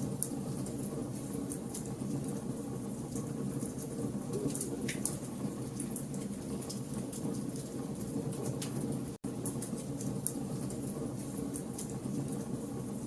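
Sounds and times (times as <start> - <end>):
wood fire crackling and popping: 0.0 - 12.7.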